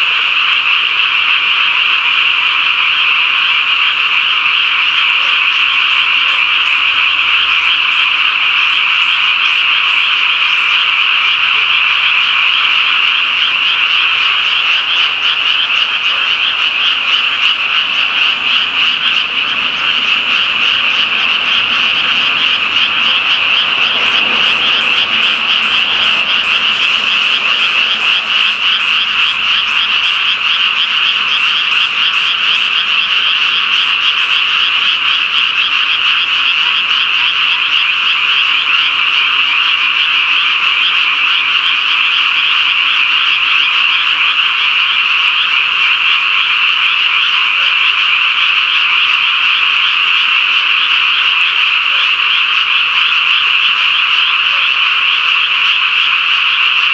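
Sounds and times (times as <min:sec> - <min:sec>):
frogs croaking: 0:00.0 - 0:56.9.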